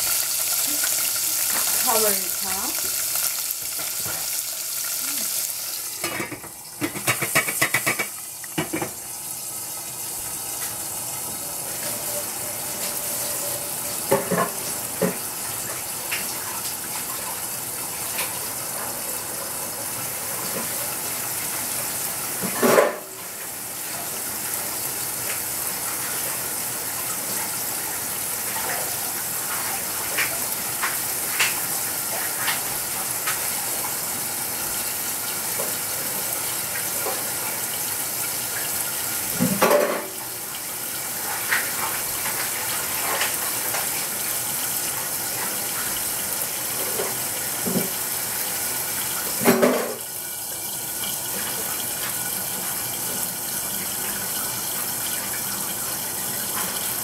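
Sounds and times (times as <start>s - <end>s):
tofu sizzling in oil: 0.0s - 57.0s.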